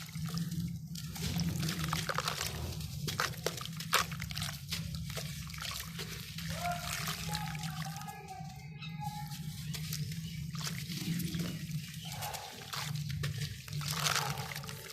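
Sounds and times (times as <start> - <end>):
crackles: 0.0 - 8.5, 9.2 - 14.9
low hum: 0.0 - 14.8
lumps crumbling in water: 0.0 - 14.9
water pouring and trickling: 0.0 - 14.9.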